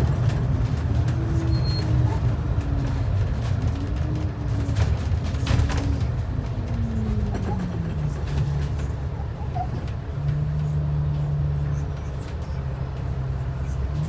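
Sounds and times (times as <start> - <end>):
bus engine drone: 0.0 - 14.0
road rumble: 0.0 - 14.0.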